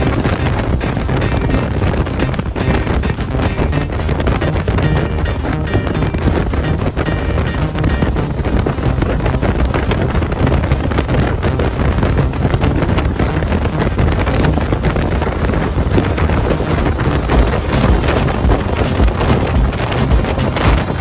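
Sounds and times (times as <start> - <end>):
road and vehicle noise: 0.0 - 21.0.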